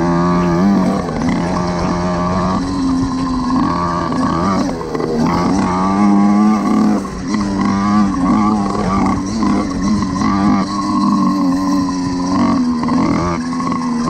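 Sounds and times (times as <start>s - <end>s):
small petrol engine revving: 0.0s - 14.0s.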